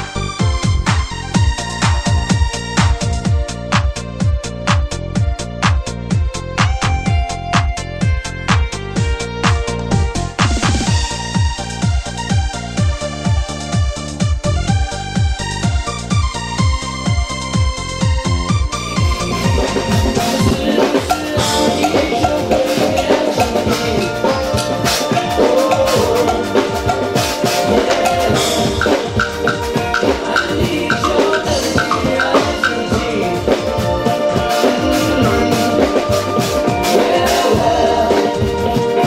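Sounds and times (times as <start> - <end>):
backing music track: 0.0 - 39.0
drum kit played with sticks: 0.0 - 39.0.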